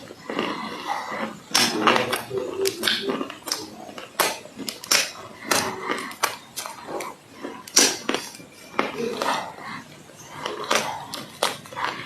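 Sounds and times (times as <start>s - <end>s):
crunching of baked clay being chewed: 0.0s - 12.0s.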